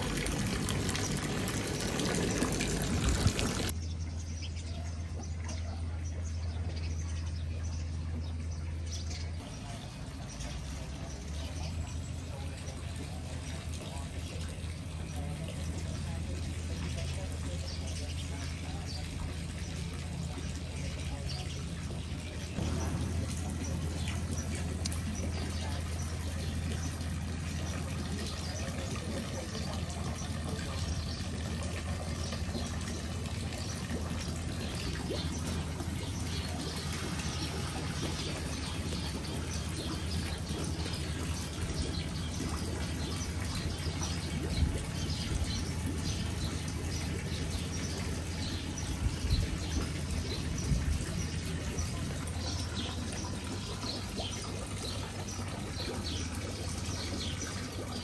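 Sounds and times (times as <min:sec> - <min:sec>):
low hum: 0:00.0 - 0:53.6
water trickling into pond: 0:00.0 - 0:58.0.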